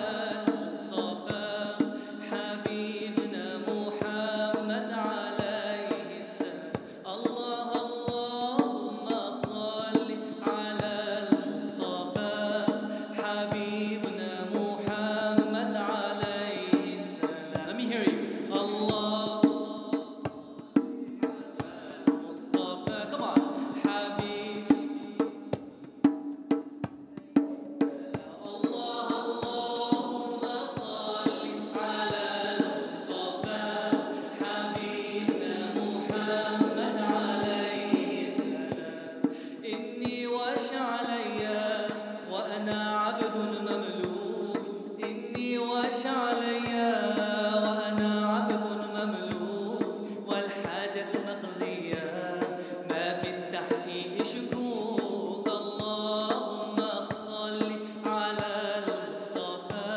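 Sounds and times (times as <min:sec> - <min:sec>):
man singing melodic chant: 0:00.0 - 0:26.2, 0:27.2 - 0:59.9
hand drum beat: 0:00.0 - 0:59.9.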